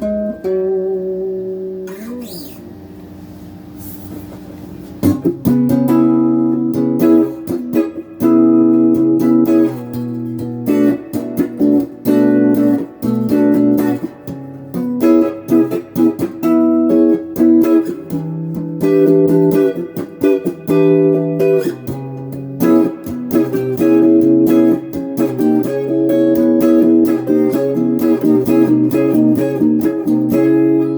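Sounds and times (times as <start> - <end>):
electric guitar chords strummed: 0.0 - 4.2, 5.0 - 30.9.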